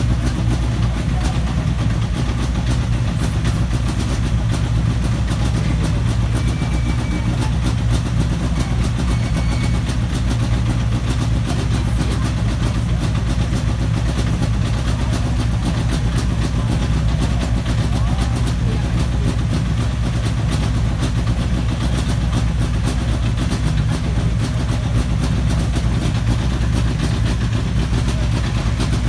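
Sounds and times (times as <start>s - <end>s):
car engine idling loudly: 0.0s - 29.0s.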